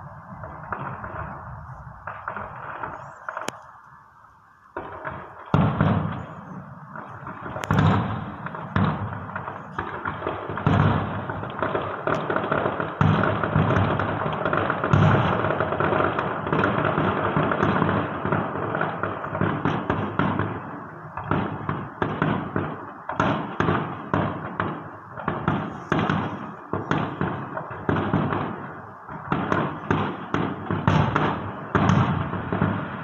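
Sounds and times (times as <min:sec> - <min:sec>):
fireworks booms: 0:00.0 - 0:03.6, 0:04.7 - 0:33.0
fireworks crackling: 0:00.0 - 0:33.0.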